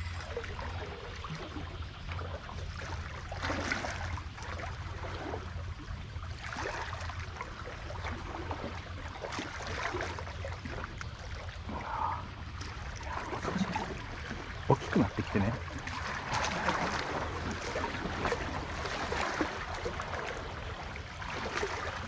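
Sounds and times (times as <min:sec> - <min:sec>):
steady low hum: 0:00.0 - 0:22.0
water lapping against concrete: 0:00.0 - 0:22.0.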